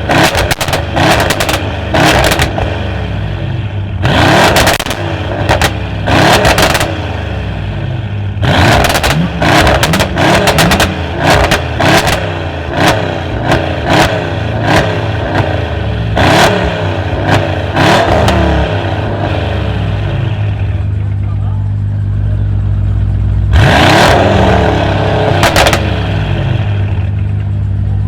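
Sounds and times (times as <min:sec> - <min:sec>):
car engine revving through exhaust: 0:00.0 - 0:20.9, 0:22.7 - 0:27.3.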